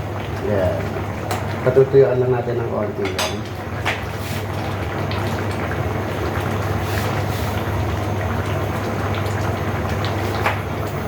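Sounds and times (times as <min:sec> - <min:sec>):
pot bubbling with small pops: 0:00.0 - 0:01.9, 0:02.8 - 0:11.0.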